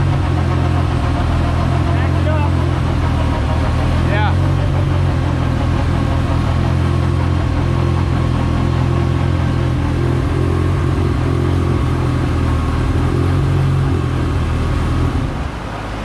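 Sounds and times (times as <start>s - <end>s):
four-cylinder engine running: 0.0s - 16.0s.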